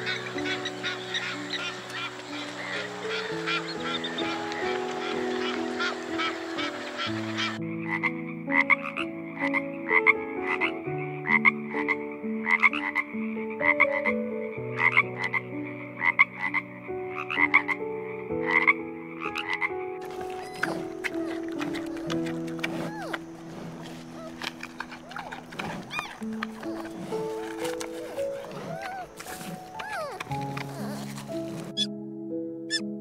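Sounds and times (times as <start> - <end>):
frog croaking: 0.0 - 31.9
soft piano music: 0.0 - 33.0.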